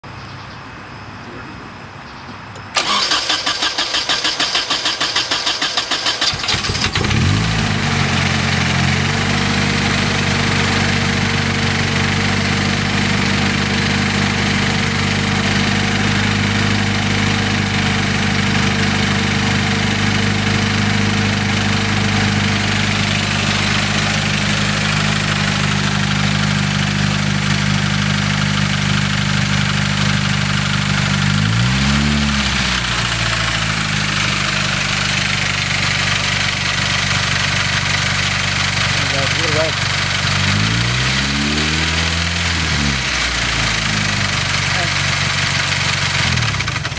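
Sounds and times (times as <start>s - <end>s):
engine cranking and idling: 2.6s - 46.9s.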